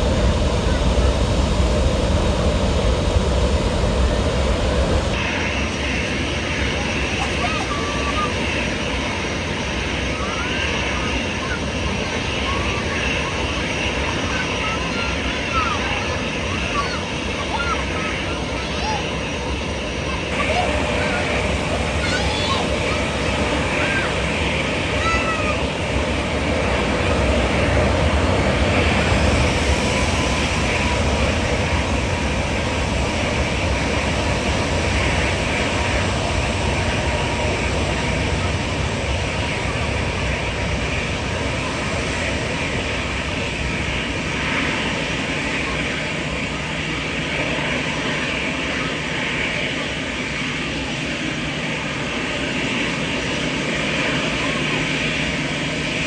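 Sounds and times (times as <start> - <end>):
faint jet whine: 0.0 - 56.0
jet engines at takeoff: 0.0 - 56.0.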